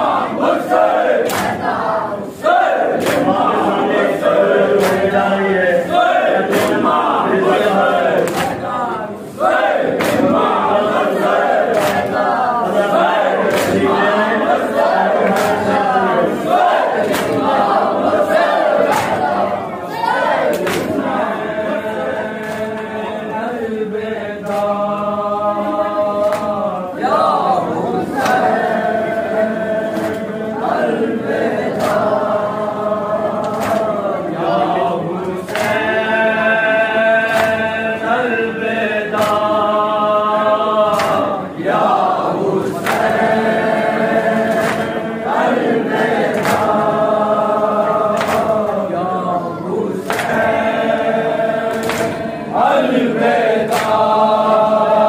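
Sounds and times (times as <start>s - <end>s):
group chanting a lament: 0.0s - 55.0s.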